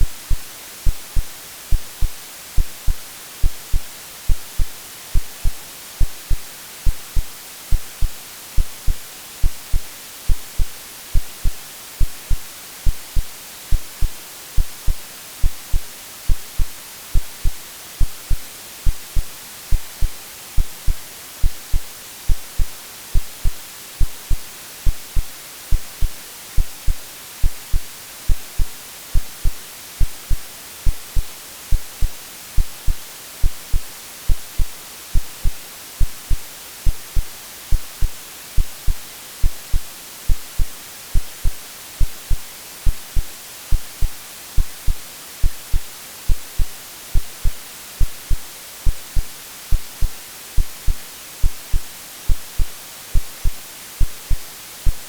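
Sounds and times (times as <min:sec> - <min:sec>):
heartbeat thumps: 0:00.0 - 0:55.0
white noise hiss: 0:00.0 - 0:55.0.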